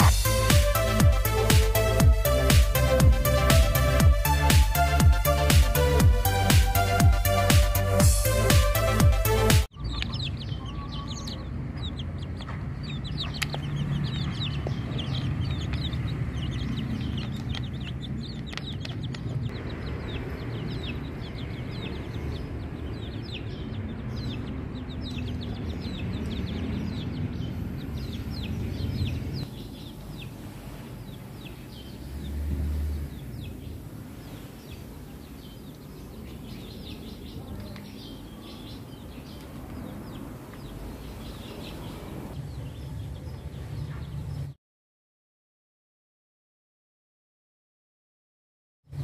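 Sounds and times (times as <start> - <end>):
birds chirping: 0.0 - 44.6.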